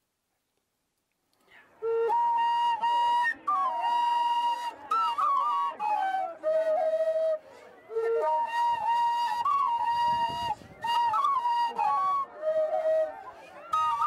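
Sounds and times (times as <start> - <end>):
flute playing slow melody: 1.7 - 14.0.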